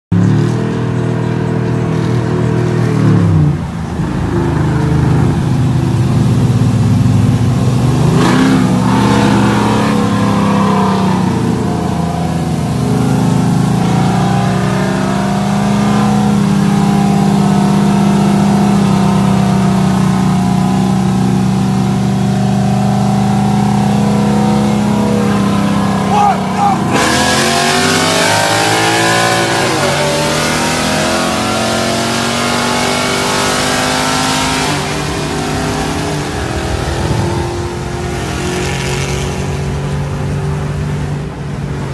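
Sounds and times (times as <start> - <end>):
truck exhaust accelerating: 0.1 - 41.9.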